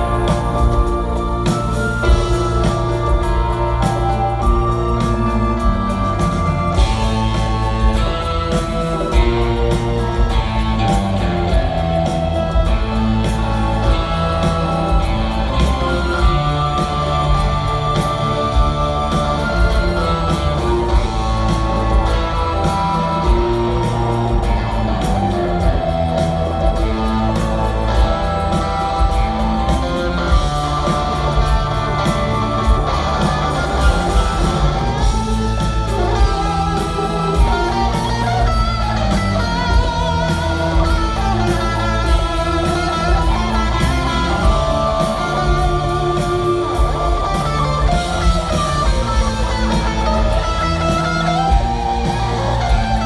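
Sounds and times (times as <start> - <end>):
electric guitar: 0.0 - 53.0
rock band playing: 0.0 - 53.0
steady drum beat: 0.0 - 53.0.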